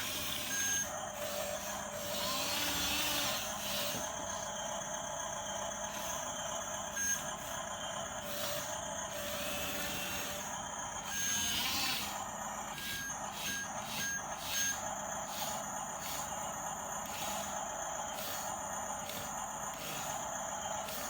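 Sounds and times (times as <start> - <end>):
toy motor whining: 0.0 - 4.4, 5.8 - 21.0.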